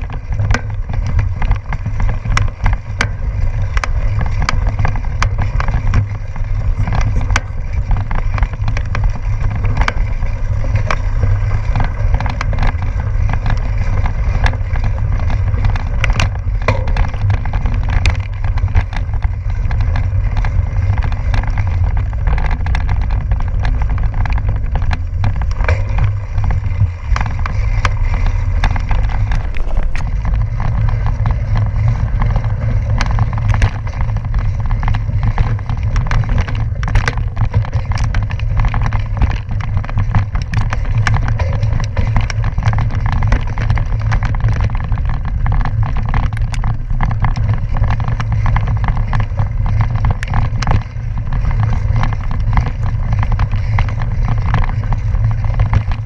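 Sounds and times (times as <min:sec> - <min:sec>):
bike clicking and knocking on rocks: 0:00.0 - 0:56.0
bike tyres rumbling on gravel: 0:00.0 - 0:56.0.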